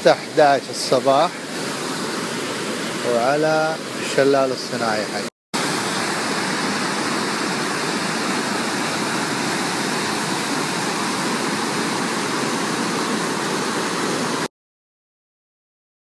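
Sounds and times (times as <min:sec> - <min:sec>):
waterfall rushing over rocks: 0:00.0 - 0:14.5.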